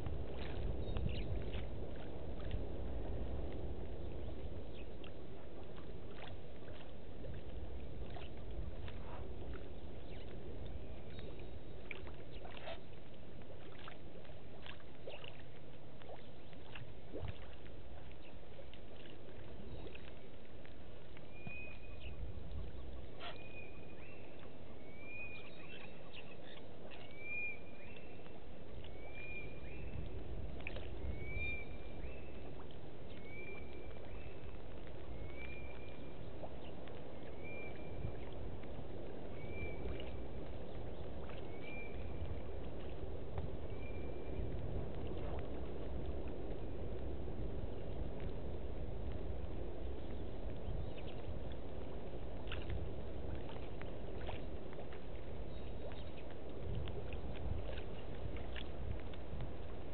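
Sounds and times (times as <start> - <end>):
low rumble of bush ambience: 0.0 - 59.9.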